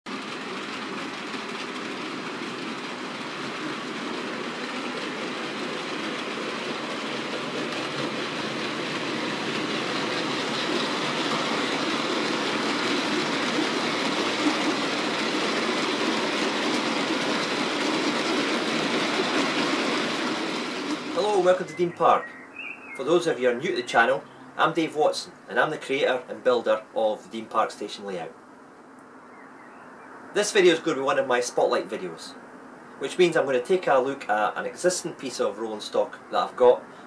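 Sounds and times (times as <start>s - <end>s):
model train running on track: 0.1s - 28.4s, 33.0s - 37.0s.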